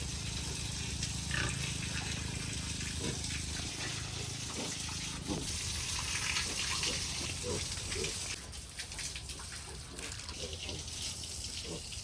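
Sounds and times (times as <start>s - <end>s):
pigs grunting: 0.2s - 5.6s, 6.3s - 8.4s, 9.6s - 12.0s.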